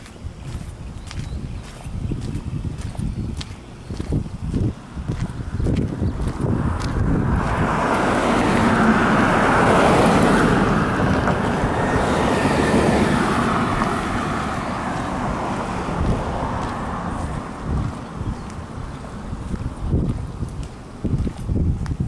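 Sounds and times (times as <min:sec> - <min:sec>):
vehicle passing on road: 0:00.0 - 0:22.0.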